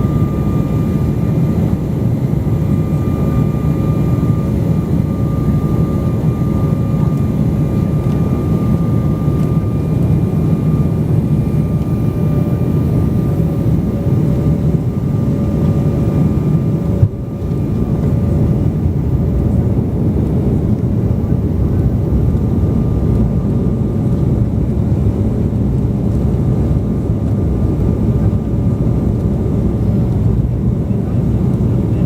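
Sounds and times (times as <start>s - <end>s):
aircraft cabin engine rush: 0.0s - 32.0s.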